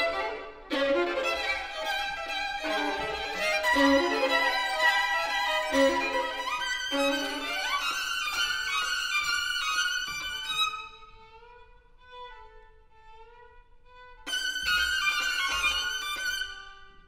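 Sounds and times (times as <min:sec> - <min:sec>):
two violins playing: 0:00.0 - 0:17.0.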